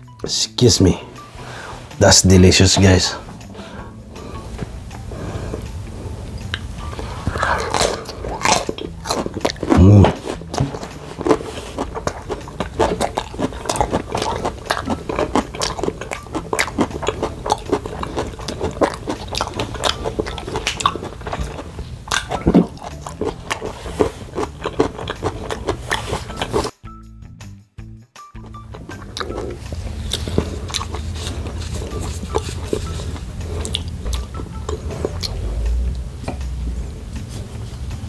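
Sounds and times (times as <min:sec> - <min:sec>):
chewing food with mouth clicks: 0:03.4 - 0:26.7, 0:28.4 - 0:38.0.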